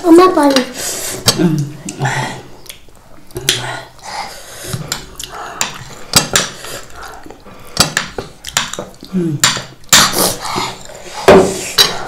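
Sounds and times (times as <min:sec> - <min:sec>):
people eating: 0:00.0 - 0:12.0.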